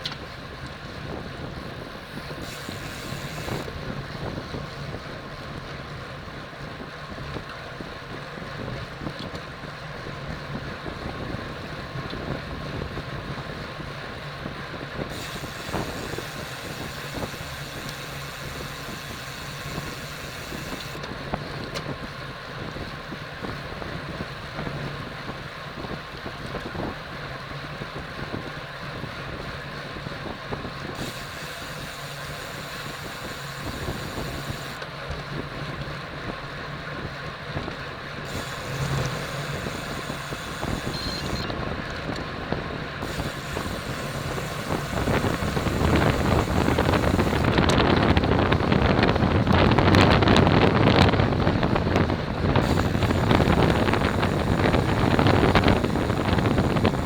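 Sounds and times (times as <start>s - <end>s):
tyre and road noise: 0.0s - 57.0s
wind rushing over microphone: 10.0s - 57.0s.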